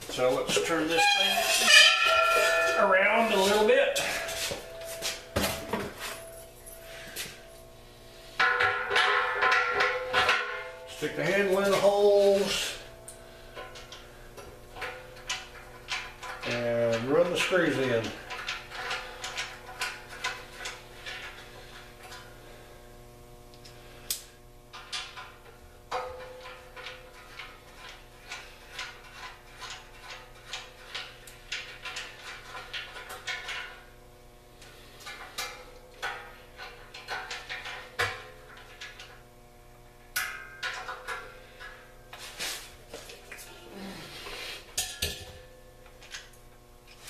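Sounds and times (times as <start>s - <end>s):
faint steady hum: 1.6s - 47.0s.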